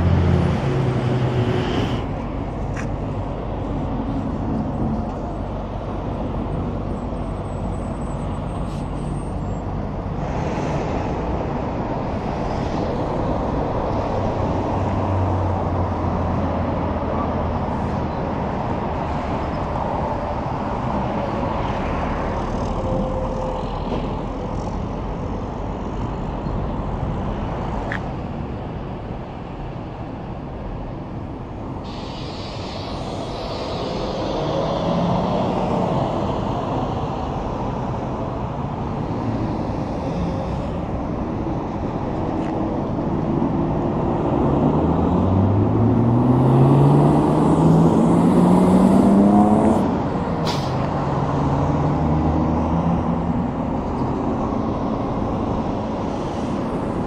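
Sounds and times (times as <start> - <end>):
highway traffic passing: 0.0 - 57.0.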